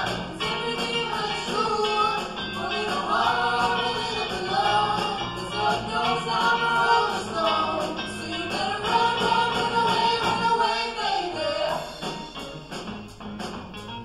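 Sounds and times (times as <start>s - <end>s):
steady drum beat: 0.0s - 10.6s, 11.7s - 14.0s
people singing: 0.0s - 12.1s
pop band playing: 0.0s - 14.0s.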